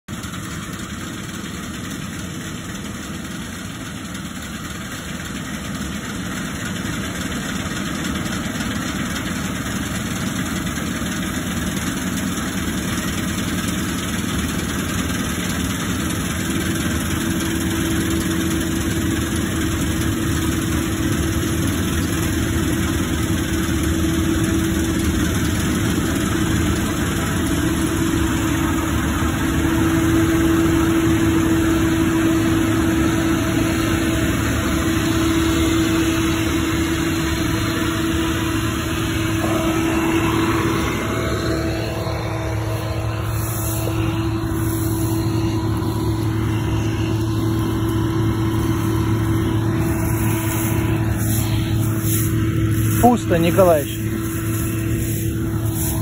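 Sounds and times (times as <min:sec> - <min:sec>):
combine harvester running: 0:00.1 - 0:56.0.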